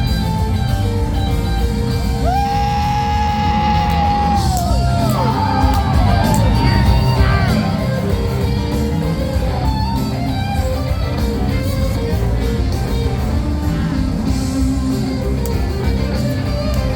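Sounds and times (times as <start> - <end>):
guitar music: 0.0 - 16.9.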